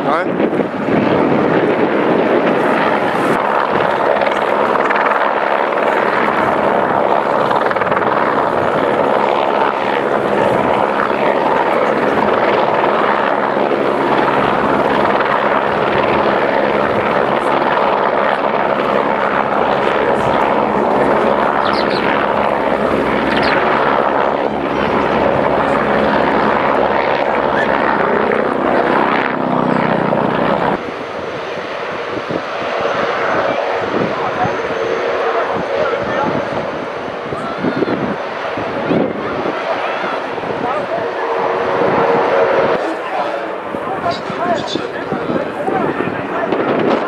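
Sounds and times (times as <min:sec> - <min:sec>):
helicopter flying overhead: 0:00.0 - 0:47.0.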